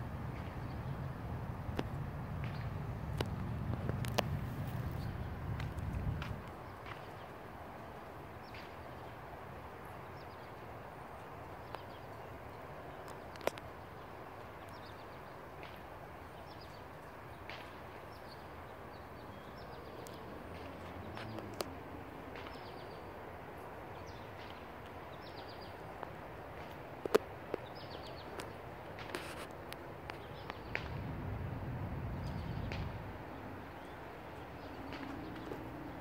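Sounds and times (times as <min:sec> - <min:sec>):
small birds chirping: 0:00.3 - 0:09.2, 0:09.8 - 0:31.1, 0:32.1 - 0:36.0.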